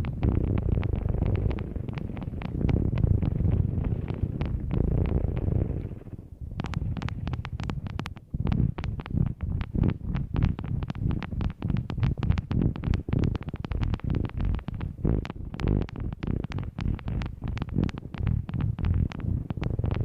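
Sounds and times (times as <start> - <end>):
low rumbling: 0.0 - 20.0
quick sharp taps and clicks: 0.0 - 20.0.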